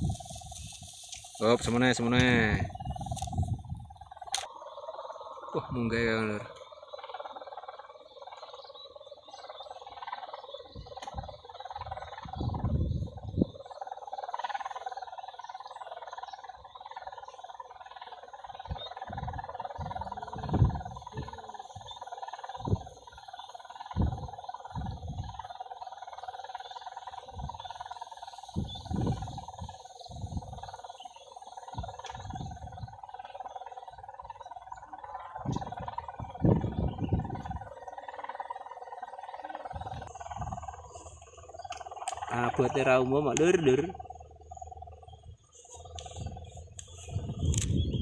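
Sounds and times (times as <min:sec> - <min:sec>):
kite hummer drone: 0:00.0 - 0:04.5, 0:08.6 - 0:16.6, 0:17.2 - 0:48.0
wind rumbling on microphone: 0:00.0 - 0:04.5, 0:09.2 - 0:15.0, 0:15.6 - 0:48.0.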